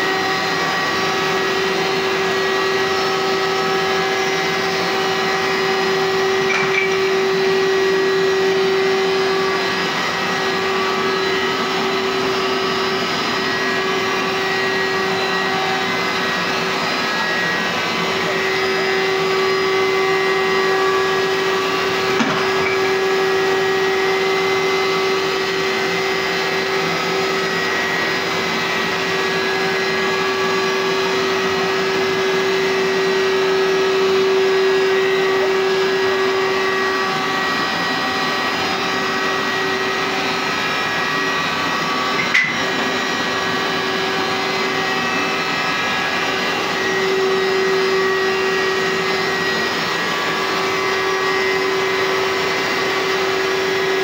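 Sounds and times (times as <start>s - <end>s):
carpet cleaner motor whine: 0.0s - 54.0s.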